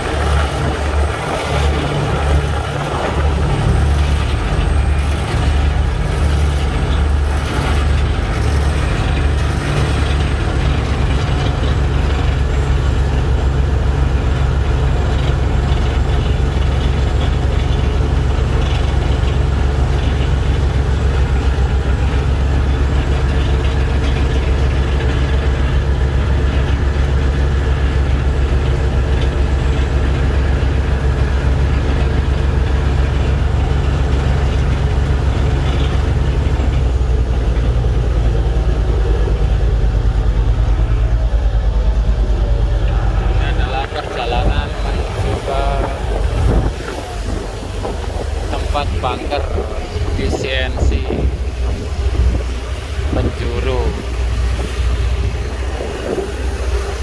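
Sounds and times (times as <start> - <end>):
road noise: 0.0 - 57.0
vehicle engine humming: 0.0 - 57.0.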